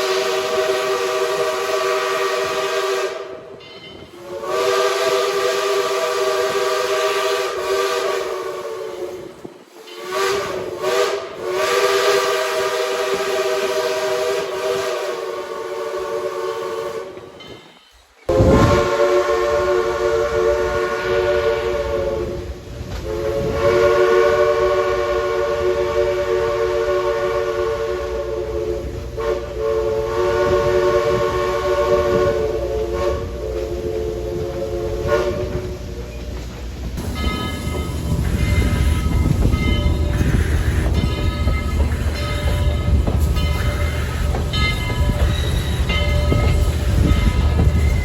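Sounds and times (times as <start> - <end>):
steam locomotive whistle: 0.0 - 17.6, 18.3 - 48.0
train rumble: 0.0 - 48.0.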